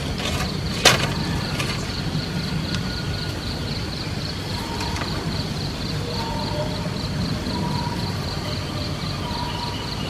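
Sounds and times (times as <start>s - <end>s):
insects chirping in pulses: 0.0s - 10.0s.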